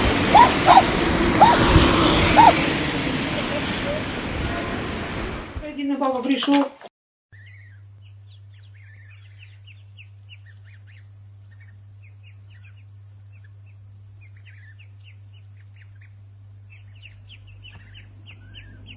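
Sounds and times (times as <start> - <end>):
small birds chirping: 0.0 - 4.0, 7.4 - 18.9.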